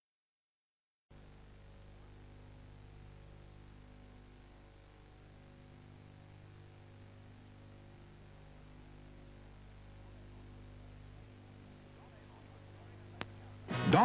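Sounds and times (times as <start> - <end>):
mains hum: 1.1 - 14.0
tape hiss: 1.1 - 14.0.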